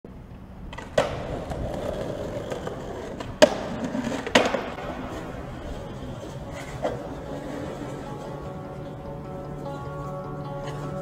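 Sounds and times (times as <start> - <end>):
skateboard wheels rolling on concrete: 0.1 - 11.0
skateboard clacking on ground: 0.6 - 11.0.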